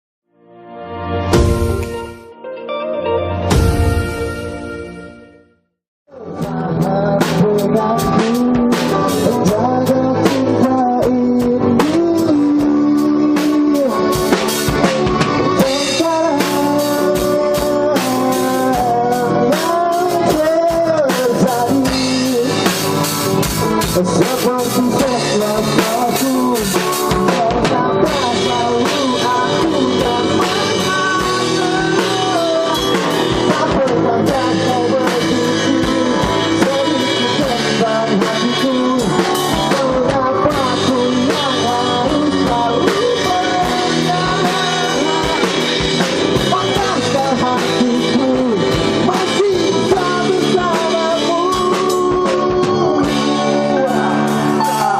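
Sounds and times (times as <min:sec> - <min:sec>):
live pop-rock band: 0:00.5 - 0:05.3, 0:06.1 - 0:54.9
lead singer singing: 0:06.1 - 0:54.9.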